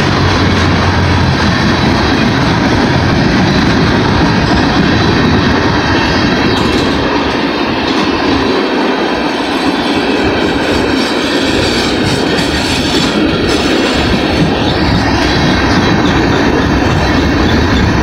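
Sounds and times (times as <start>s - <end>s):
freight cars clattering on rails: 0.0s - 18.0s.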